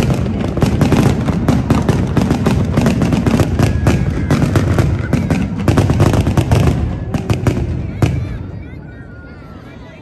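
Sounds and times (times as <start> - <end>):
fireworks bursting and crackling: 0.0 - 9.3.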